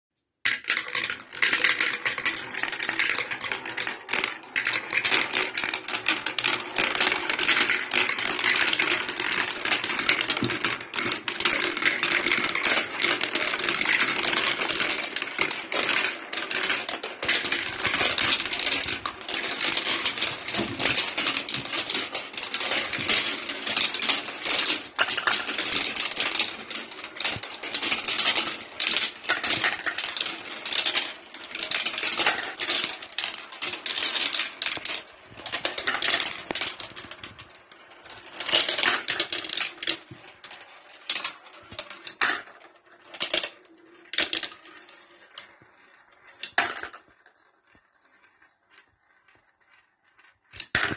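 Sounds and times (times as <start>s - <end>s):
marbles rattling through plastic tubes: 0.4s - 50.9s.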